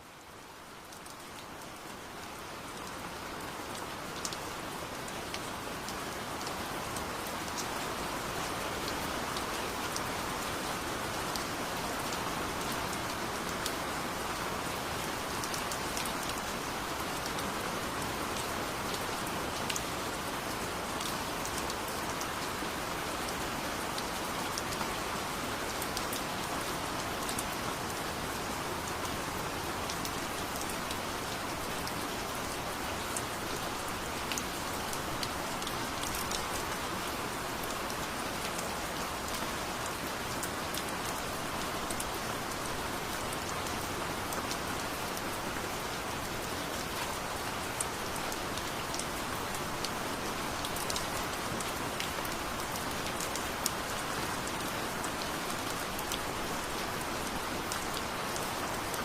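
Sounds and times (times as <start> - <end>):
heavy rain falling: 0.1 - 59.0.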